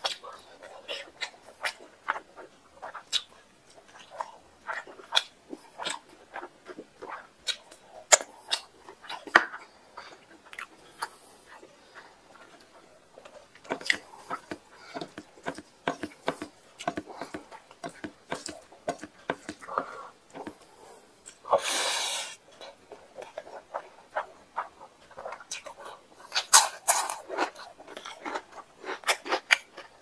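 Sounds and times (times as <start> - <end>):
man chewing with lip smacks: 0.0 - 21.6, 22.3 - 30.0.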